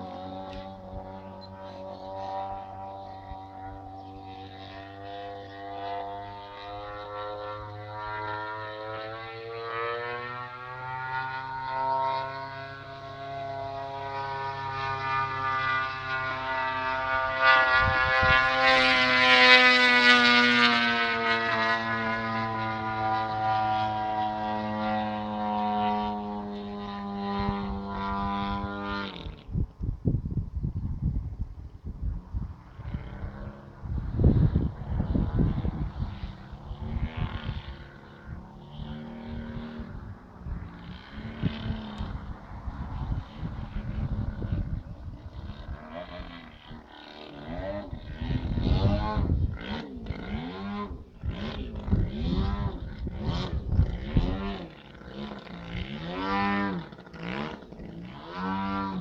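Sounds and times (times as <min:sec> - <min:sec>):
model airplane engine droning: 0:00.0 - 0:59.0.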